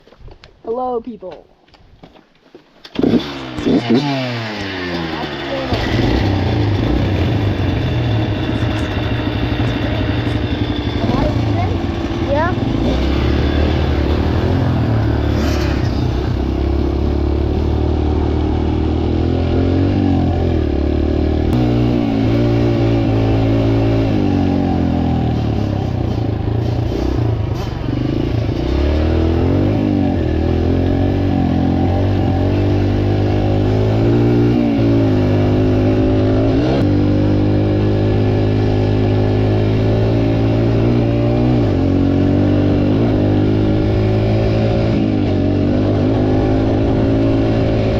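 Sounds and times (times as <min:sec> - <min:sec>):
dirt bike engines revving: 0:02.8 - 0:47.9.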